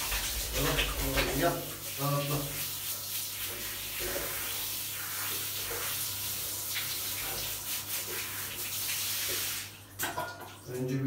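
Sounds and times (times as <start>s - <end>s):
shower head spraying water: 0.0s - 9.7s.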